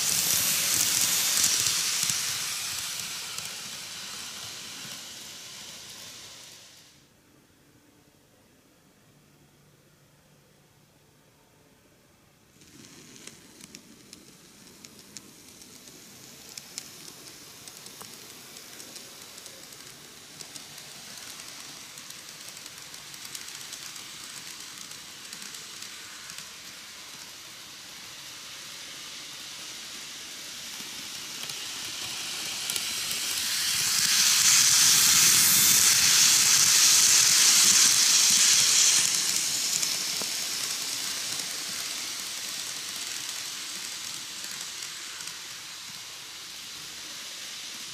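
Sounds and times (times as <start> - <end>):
model train running on track: 0.0 - 7.1, 11.2 - 47.9.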